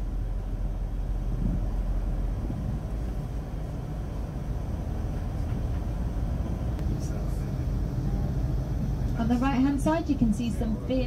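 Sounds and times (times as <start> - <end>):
coach driving low rumble: 0.0 - 11.0.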